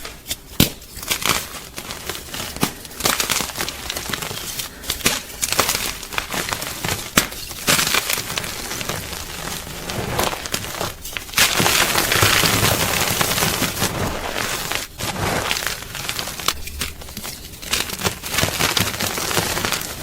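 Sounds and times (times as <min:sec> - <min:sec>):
chalk crunching and crumbling: 0:00.0 - 0:20.0.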